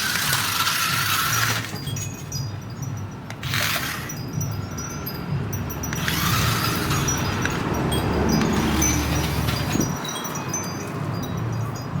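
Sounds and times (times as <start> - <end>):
tinkling chimes: 0.0 - 12.0.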